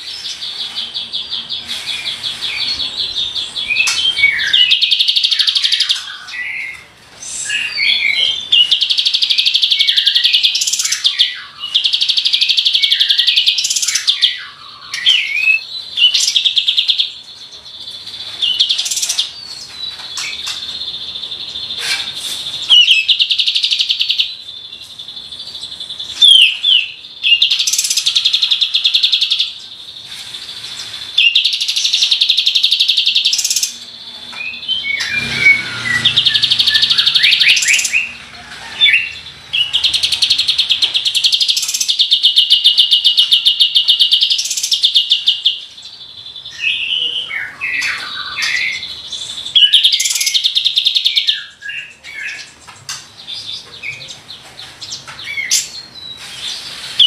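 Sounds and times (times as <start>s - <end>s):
bird singing fast trills: 0.0s - 57.0s.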